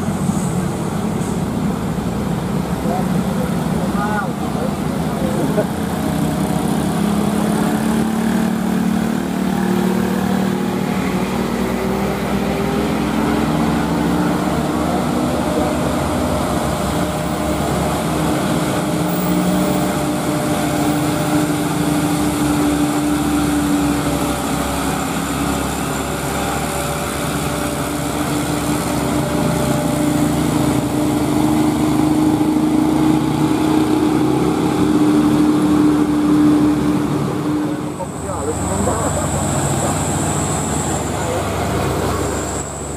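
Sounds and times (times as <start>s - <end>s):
truck diesel engine under load: 0.0s - 42.9s.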